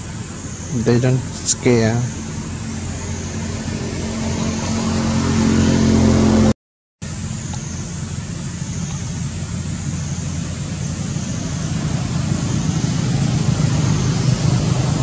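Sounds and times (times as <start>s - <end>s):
rumbling background noise: 0.0s - 6.5s, 7.1s - 15.0s
engine low hum: 0.0s - 15.0s.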